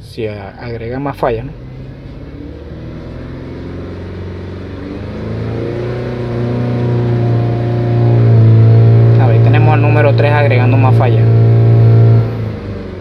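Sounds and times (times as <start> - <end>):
misfiring car engine revving: 0.6 - 13.0.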